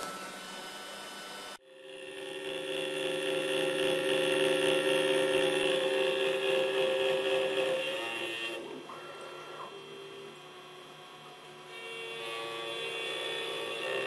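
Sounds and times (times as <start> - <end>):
machine hum: 0.0 - 14.0
router spindle whine: 0.0 - 14.0.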